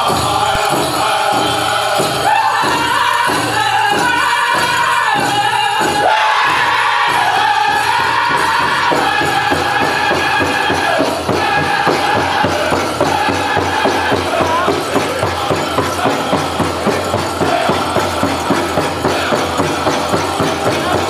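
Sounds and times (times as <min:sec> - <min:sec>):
group singing: 0:00.0 - 0:21.0
large drum beating: 0:00.0 - 0:21.0
leg bells jingling: 0:00.0 - 0:21.0.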